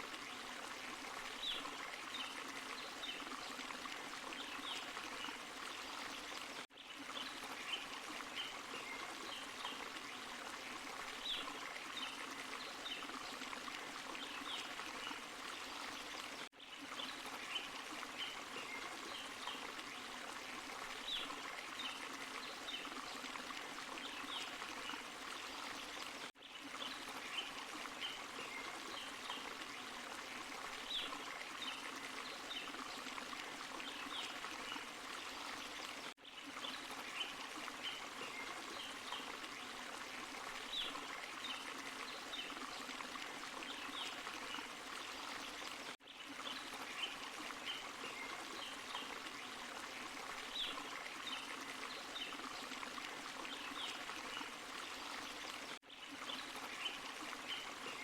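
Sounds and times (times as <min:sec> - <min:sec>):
stream and small waterfall rushing: 0:00.0 - 0:58.0.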